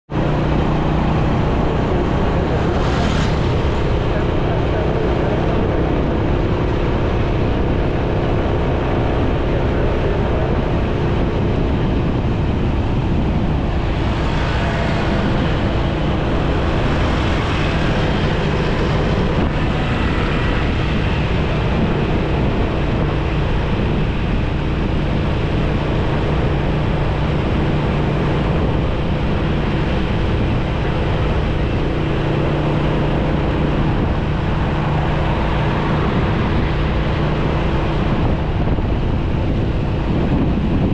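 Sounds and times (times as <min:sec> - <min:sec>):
road noise: 0:00.0 - 0:40.9
motorcycle engine running: 0:00.1 - 0:40.9
wind noise: 0:00.1 - 0:40.9.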